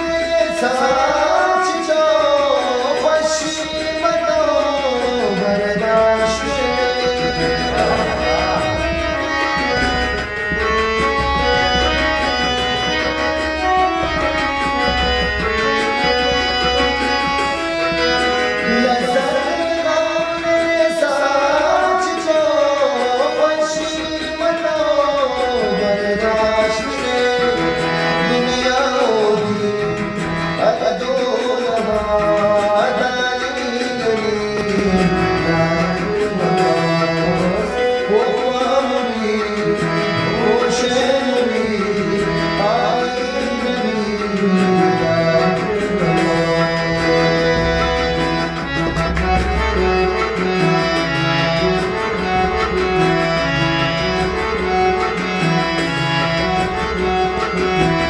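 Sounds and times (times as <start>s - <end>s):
drum accompaniment: 0.0s - 58.0s
harmonium melody: 0.0s - 58.0s.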